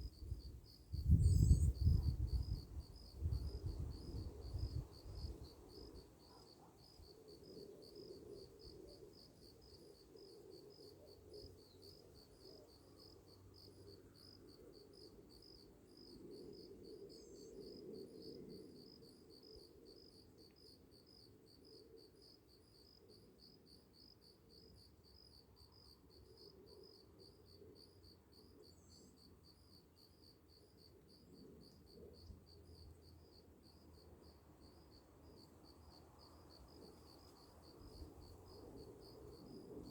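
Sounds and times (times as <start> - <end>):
cricket chirping: 0.0 - 39.9
faint background noise: 0.0 - 39.9.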